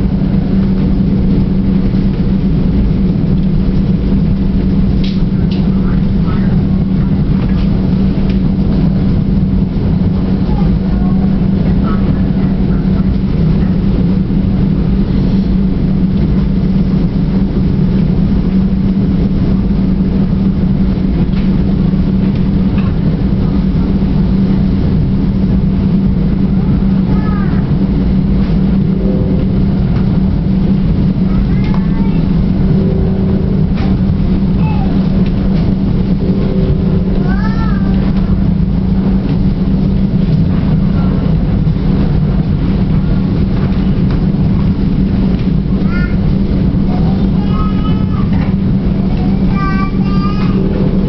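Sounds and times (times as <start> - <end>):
train interior running noise: 0.0 - 51.0.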